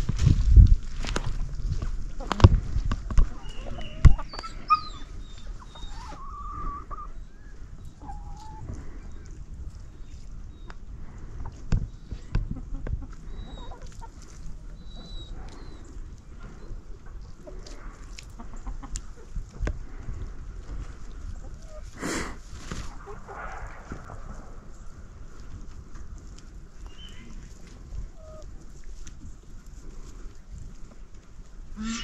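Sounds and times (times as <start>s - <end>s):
hens clucking: 2.2s - 31.0s.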